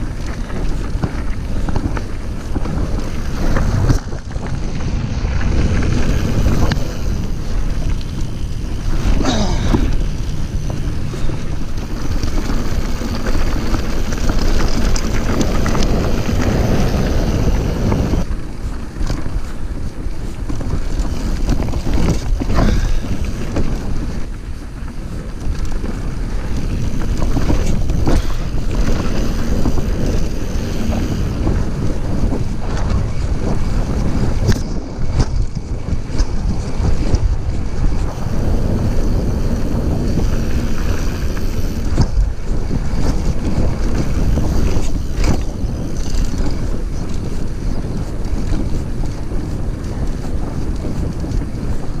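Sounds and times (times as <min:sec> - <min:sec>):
bike knocks and rattles: 0:00.0 - 0:52.0
wind buffeting microphone: 0:00.0 - 0:52.0.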